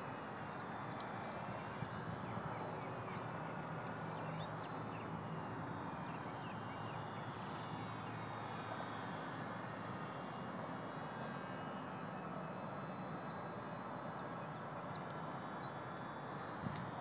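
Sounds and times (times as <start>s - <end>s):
model airplane motor droning: 0.0s - 16.8s.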